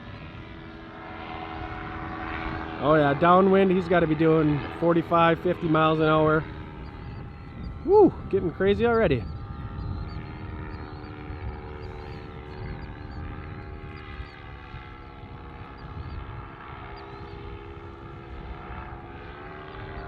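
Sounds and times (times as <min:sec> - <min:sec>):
paramotor engine droning: 0:00.0 - 0:20.0
wind rumbling on microphone: 0:00.0 - 0:20.0.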